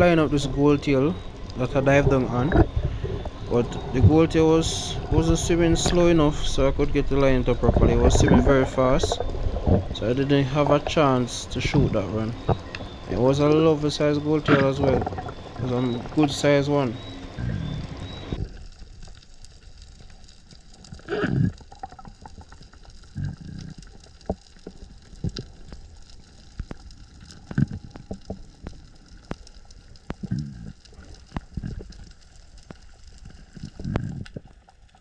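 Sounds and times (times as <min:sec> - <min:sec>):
low water wash: 0:00.0 - 0:34.5
underwater bubbling and gurgling: 0:00.0 - 0:35.0.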